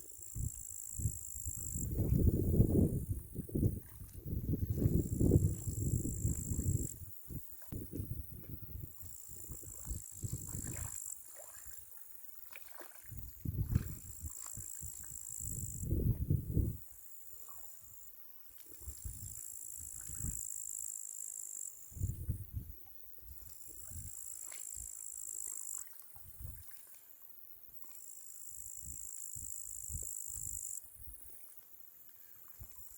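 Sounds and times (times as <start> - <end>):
crickets trilling: 0.0 - 32.9.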